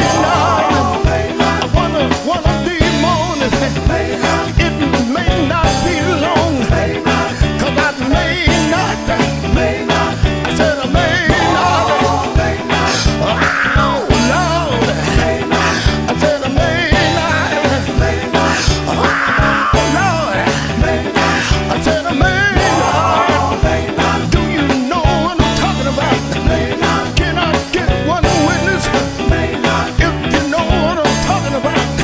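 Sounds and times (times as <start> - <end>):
band with steady beat: 0.0 - 32.0
person singing with wavering voice: 0.0 - 32.0.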